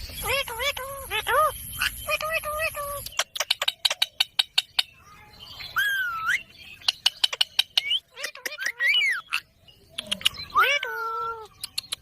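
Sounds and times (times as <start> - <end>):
parrot chirping: 0.0 - 12.0.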